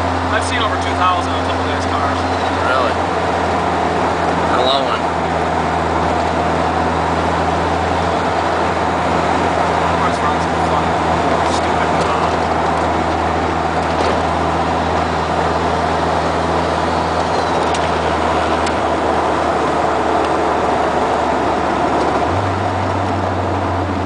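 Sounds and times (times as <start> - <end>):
car engine cruising: 0.0 - 24.0
road and wind noise: 0.0 - 24.0.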